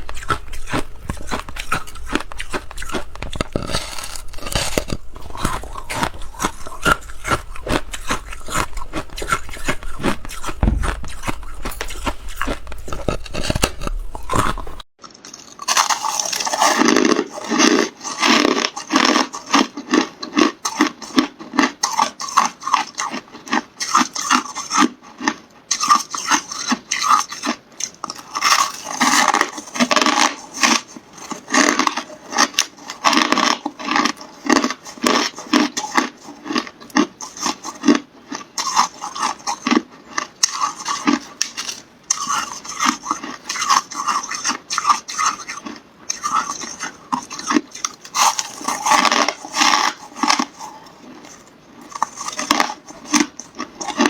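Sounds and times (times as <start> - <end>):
chewing hard ice: 0.0 - 54.0.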